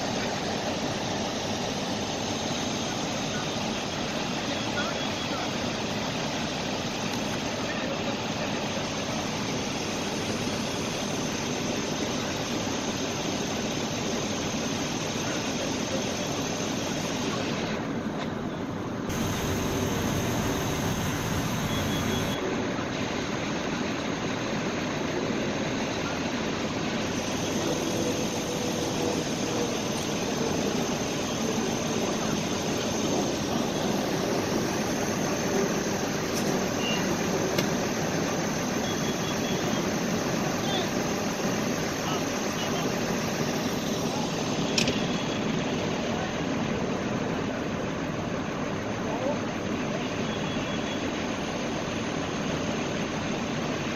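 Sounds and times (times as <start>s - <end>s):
fire engines roaring: 0.0s - 53.9s.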